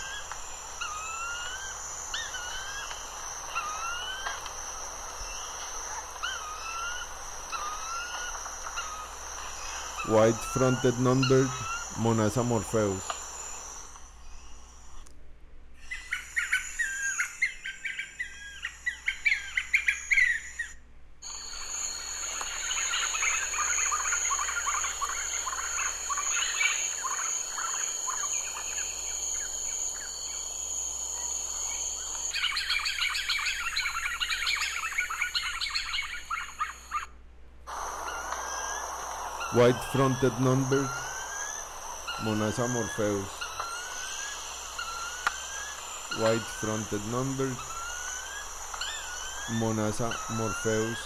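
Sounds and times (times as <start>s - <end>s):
bird chattering calls: 0.0s - 13.9s, 15.8s - 37.1s, 37.7s - 51.0s
steady high-pitched tone: 0.0s - 14.9s, 21.2s - 37.1s, 37.7s - 51.0s.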